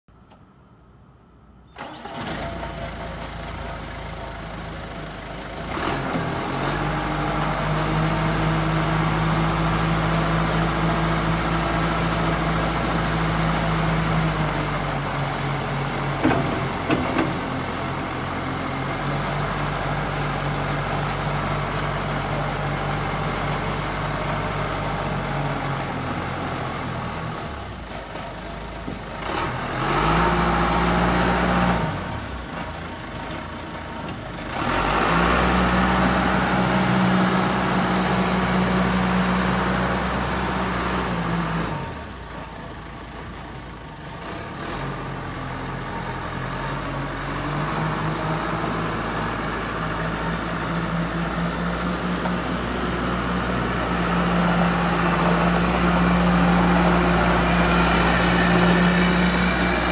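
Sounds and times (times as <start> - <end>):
diesel engine running: 1.8 - 59.9.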